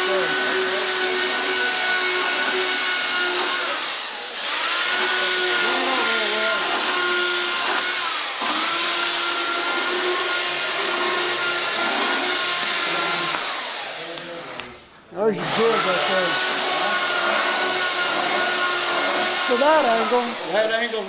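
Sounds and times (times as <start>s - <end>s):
electric power tool whining: 0.0s - 21.0s.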